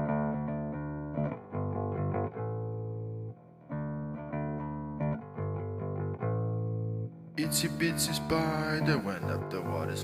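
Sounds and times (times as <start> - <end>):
guitar chords: 0.0 - 10.0.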